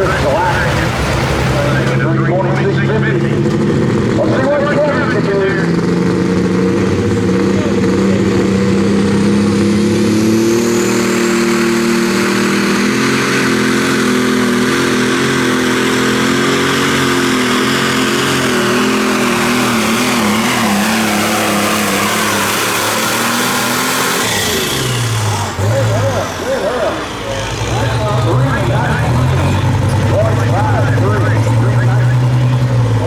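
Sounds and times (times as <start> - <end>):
tractor diesel engine at high revs: 0.0 - 33.0.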